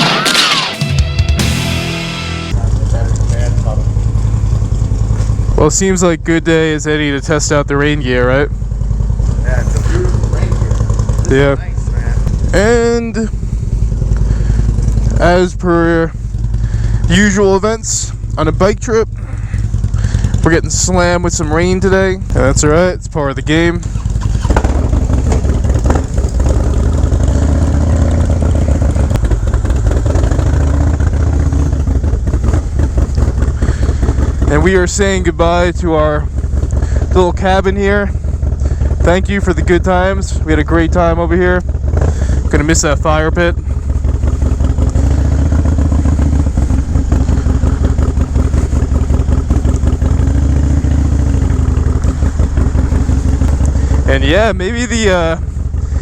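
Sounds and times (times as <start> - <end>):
motorcycle engine pulsing: 0.0 - 56.0.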